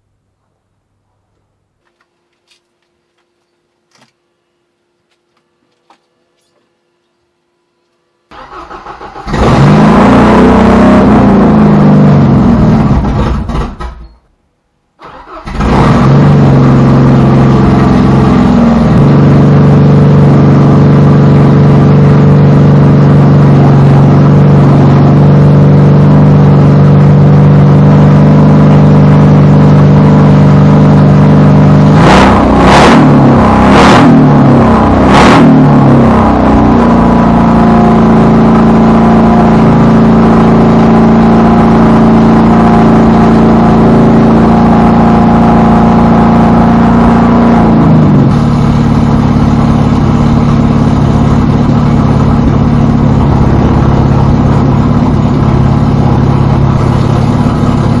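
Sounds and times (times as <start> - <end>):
car engine starting and revving: 8.3 - 14.0, 15.0 - 58.0.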